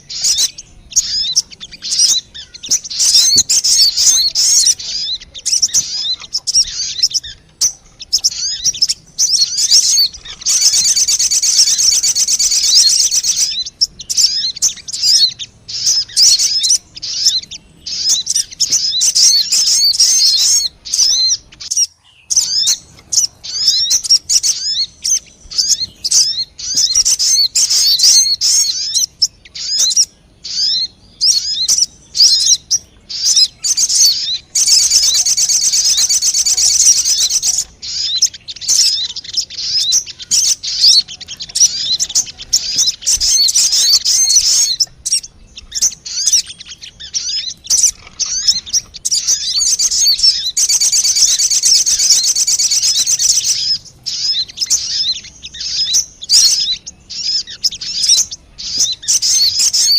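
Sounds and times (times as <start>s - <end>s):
bird lure chirps and trills: 0.0s - 59.9s.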